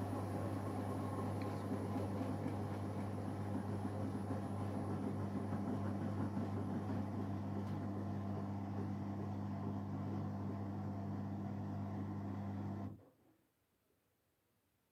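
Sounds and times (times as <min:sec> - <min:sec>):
washing machine spinning: 0:00.0 - 0:12.8.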